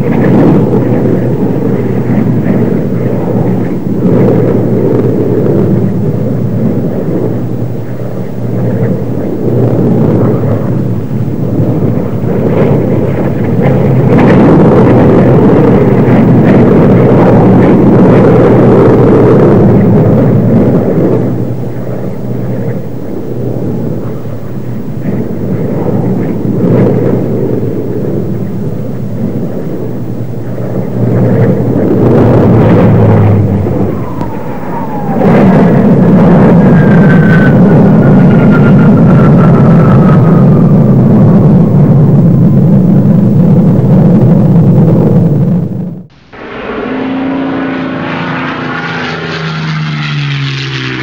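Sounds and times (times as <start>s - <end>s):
jet aircraft flying overhead: 0.0s - 51.0s.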